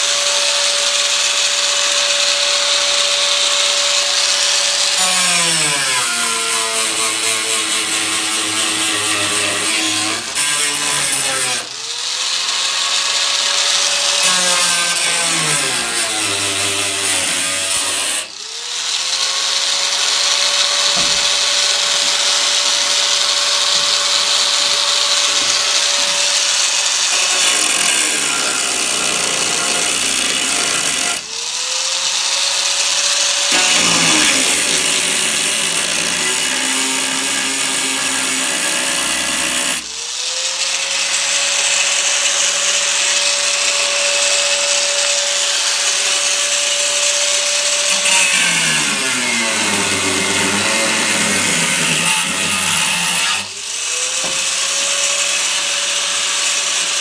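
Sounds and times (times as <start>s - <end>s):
power grinder grinding metal: 0.0s - 57.0s.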